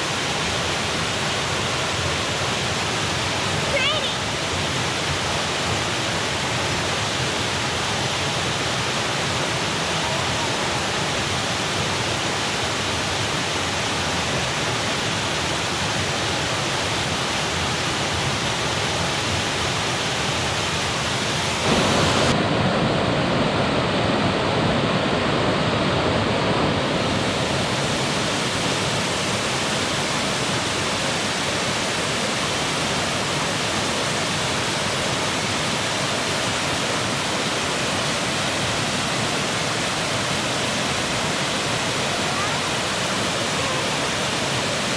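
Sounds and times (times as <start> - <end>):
waterfall rushing over rock: 0.0 - 44.9.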